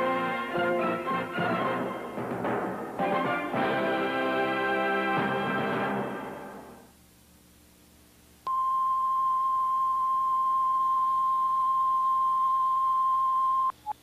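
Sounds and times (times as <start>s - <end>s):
faint tape hiss: 0.0s - 14.0s.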